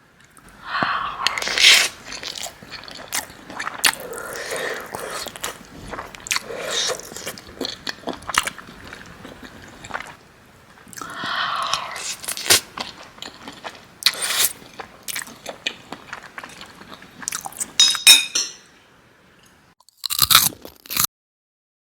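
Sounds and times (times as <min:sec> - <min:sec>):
person chewing and crunching: 0:00.3 - 0:10.2, 0:10.9 - 0:17.8, 0:19.8 - 0:21.1.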